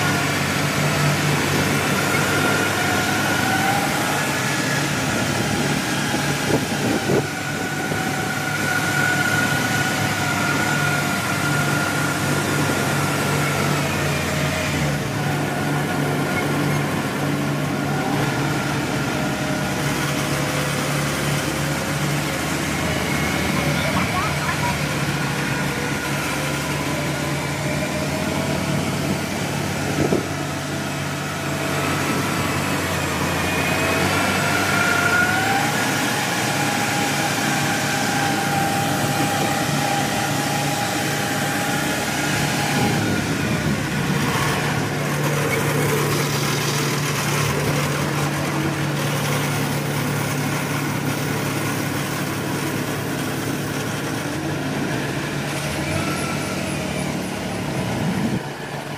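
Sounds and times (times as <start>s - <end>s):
combine harvester diesel engine: 0.0s - 58.9s
whining tone: 0.0s - 58.9s.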